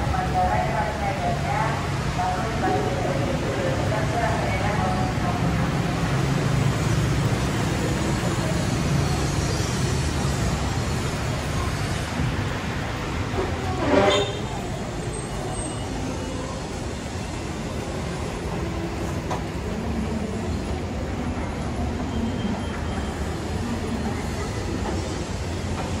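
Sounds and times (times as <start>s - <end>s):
electric train wheels on track: 0.0s - 26.0s.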